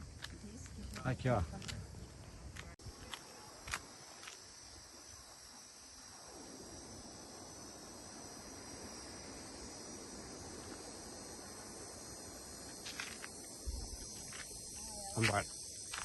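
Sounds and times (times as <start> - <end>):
cicada buzzing: 0.0 - 16.0
lower hiss: 2.8 - 16.0.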